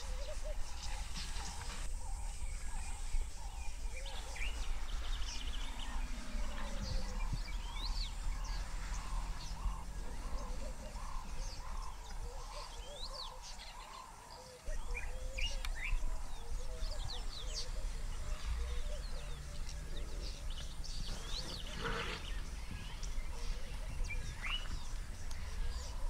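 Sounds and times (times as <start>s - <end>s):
birds chirping and calling: 0.0s - 26.0s.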